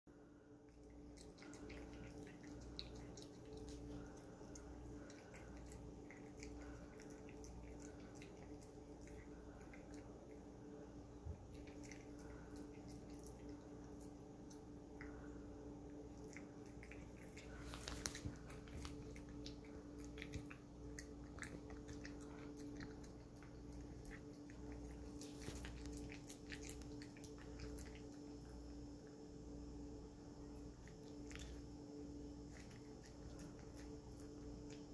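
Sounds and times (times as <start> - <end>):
cat chewing and lapping: 0.1 - 34.9
steady low hum: 0.1 - 34.9.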